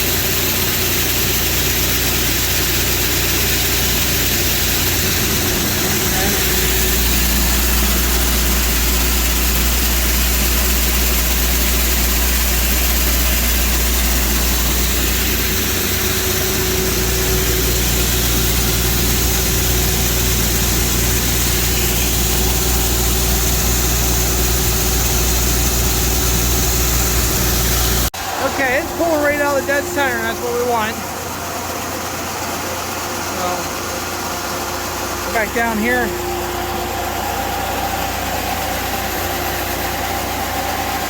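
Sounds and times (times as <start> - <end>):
machinery hiss: 0.0 - 41.0
tractor engine running: 0.0 - 41.0.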